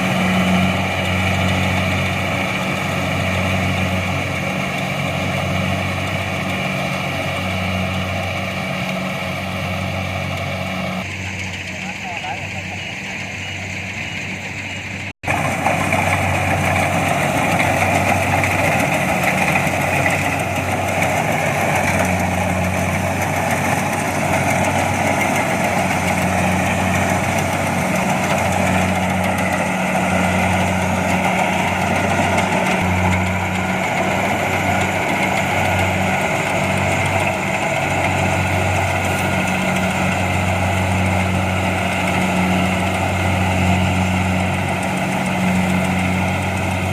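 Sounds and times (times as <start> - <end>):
combine harvester engine droning: 0.0 - 46.9.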